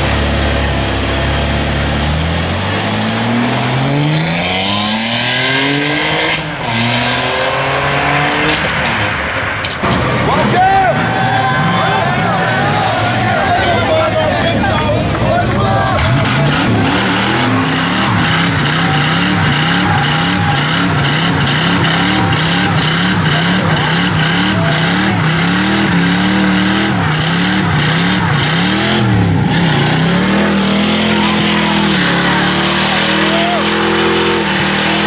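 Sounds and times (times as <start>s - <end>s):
car engine revving high: 0.0s - 35.0s.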